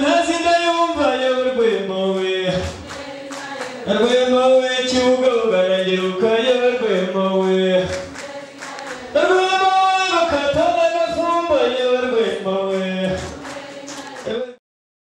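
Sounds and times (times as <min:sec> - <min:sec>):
voices singing long notes: 0:01.9 - 0:14.5.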